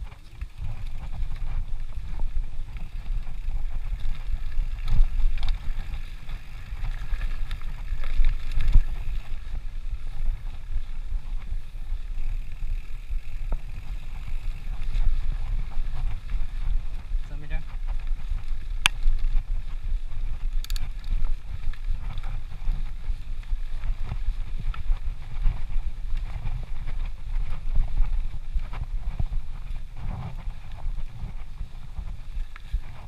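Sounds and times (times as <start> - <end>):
tyres on dirt and leaves: 0.0 - 27.1
wind rumbling on microphone: 0.0 - 33.0.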